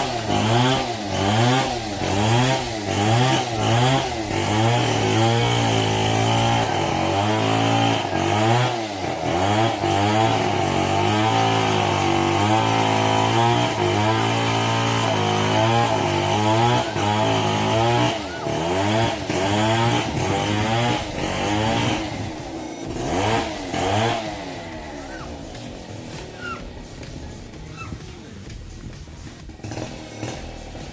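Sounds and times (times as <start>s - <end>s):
small petrol engine running: 0.0s - 30.9s.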